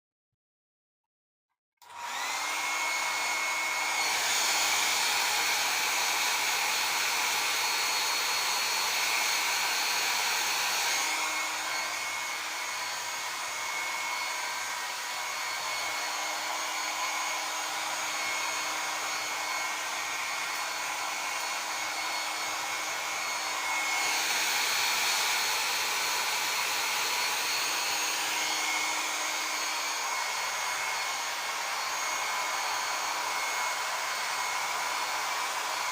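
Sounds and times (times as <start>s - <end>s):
hair dryer running: 1.8s - 35.9s.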